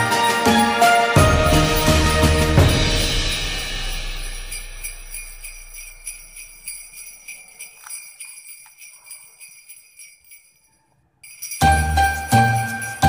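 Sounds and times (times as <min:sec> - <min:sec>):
christmas music: 0:00.0 - 0:13.0
sleigh bells jingling: 0:00.0 - 0:13.0.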